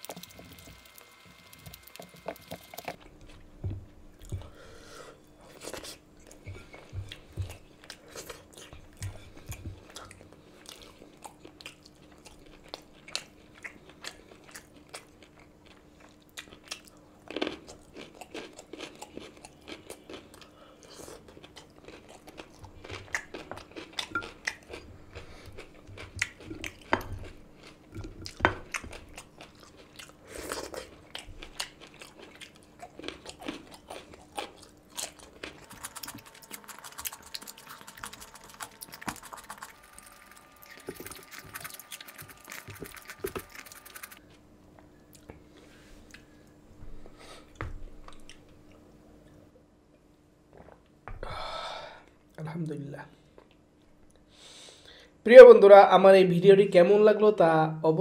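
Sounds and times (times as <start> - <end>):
man chewing food: 0.0 - 49.4.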